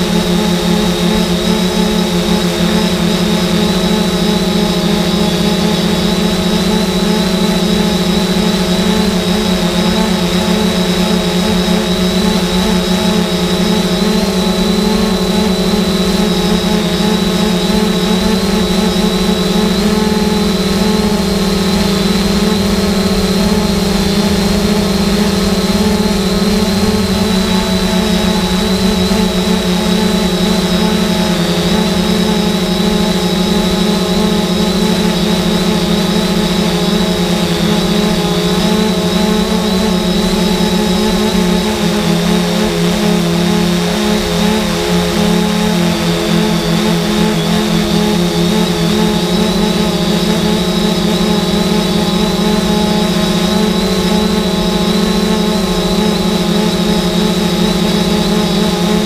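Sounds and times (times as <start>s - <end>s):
drone motors and propellers humming: 0.0s - 59.0s.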